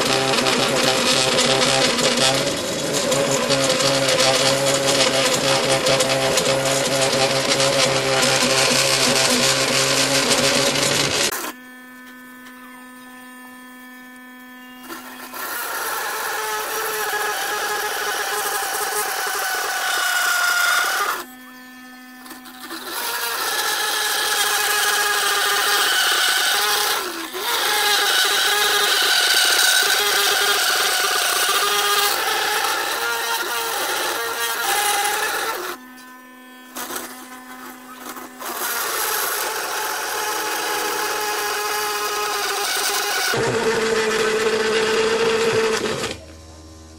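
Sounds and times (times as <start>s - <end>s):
sprocket grinding plastic: 0.0s - 46.2s
motor whine: 0.0s - 46.9s.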